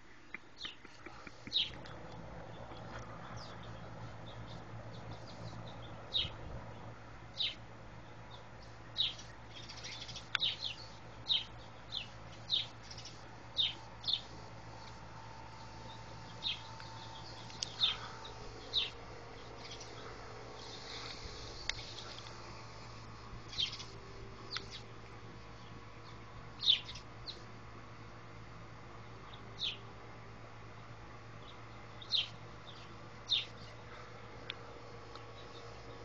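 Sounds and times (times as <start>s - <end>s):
low background hum: 0.0s - 36.0s
bird chirping: 0.2s - 25.0s, 25.6s - 27.4s, 29.2s - 29.9s, 31.4s - 34.0s, 35.3s - 36.0s.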